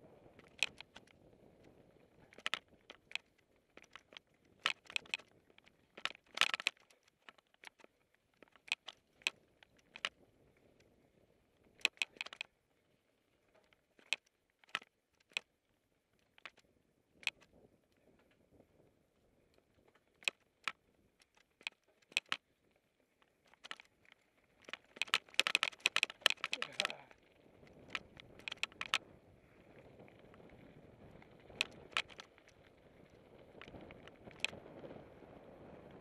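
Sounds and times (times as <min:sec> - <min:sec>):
bike clicks and rattles: 0:00.3 - 0:18.4, 0:19.5 - 0:35.0.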